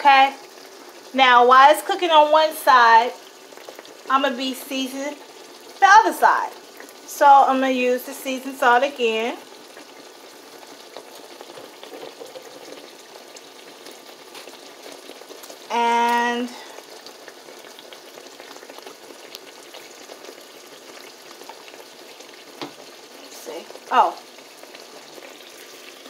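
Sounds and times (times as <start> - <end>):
meat sizzling in skillet: 0.0 - 26.0.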